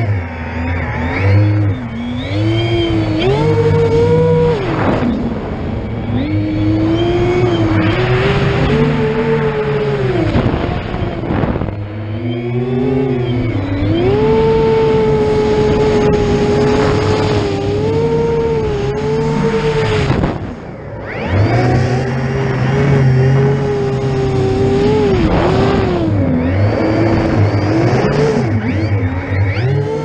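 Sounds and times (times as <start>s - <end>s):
drone motors whining: 0.0s - 30.0s
wind rushing: 2.4s - 27.3s.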